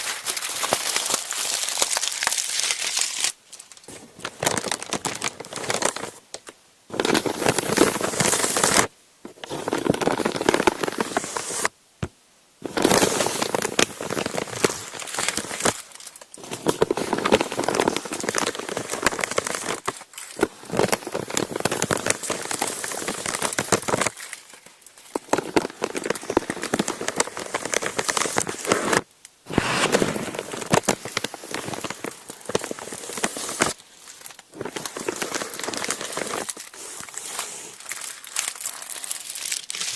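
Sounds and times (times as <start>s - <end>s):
paper being crumpled: 0.0s - 11.7s, 12.6s - 39.9s.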